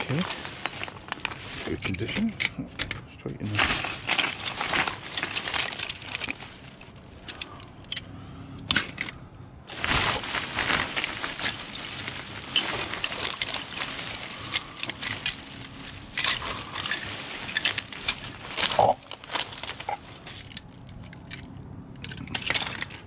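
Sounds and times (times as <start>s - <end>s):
plastic bags crinkling: 0.0s - 2.4s, 3.4s - 7.7s, 9.7s - 23.0s
small toys rattling: 0.0s - 8.0s, 8.7s - 23.0s.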